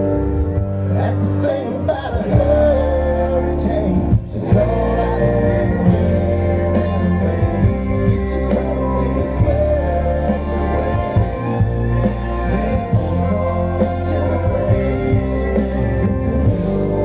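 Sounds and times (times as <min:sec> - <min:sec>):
live country band playing: 0:00.0 - 0:17.0
man singing: 0:00.9 - 0:17.0.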